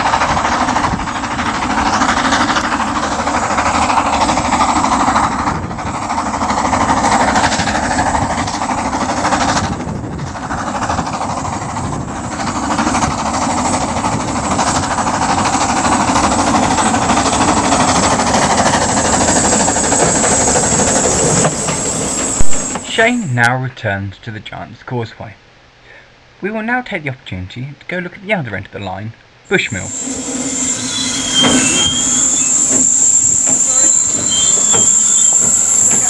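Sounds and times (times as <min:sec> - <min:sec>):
wheels on rails: 0:00.0 - 0:23.1, 0:29.5 - 0:36.0
steam locomotive running: 0:00.0 - 0:23.5, 0:29.5 - 0:36.0.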